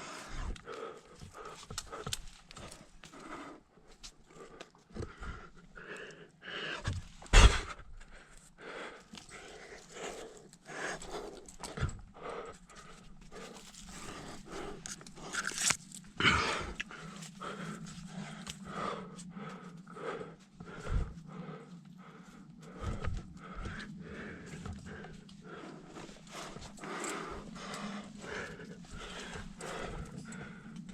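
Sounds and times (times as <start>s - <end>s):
person breathing heavily: 0.0s - 30.9s.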